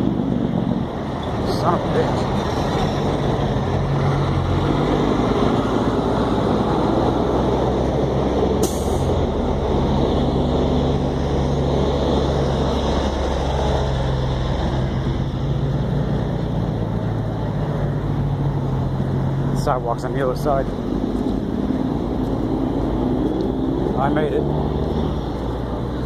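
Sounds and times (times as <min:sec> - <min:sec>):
heavy freeway traffic rushing: 0:00.0 - 0:26.0.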